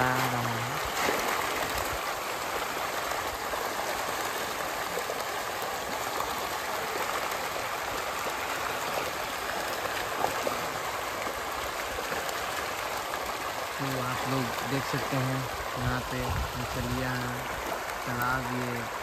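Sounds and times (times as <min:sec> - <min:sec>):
fish splashing at water surface: 0:00.0 - 0:16.4.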